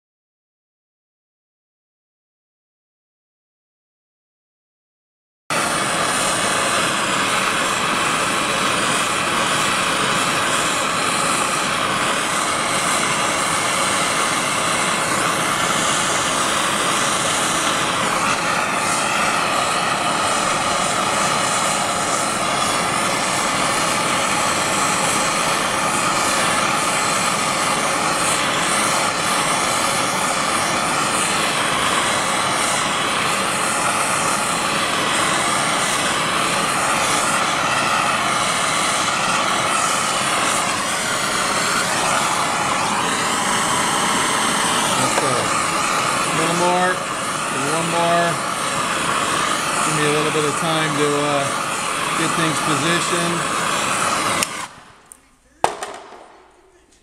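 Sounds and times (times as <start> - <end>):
propane torch hissing: 5.5 - 57.0.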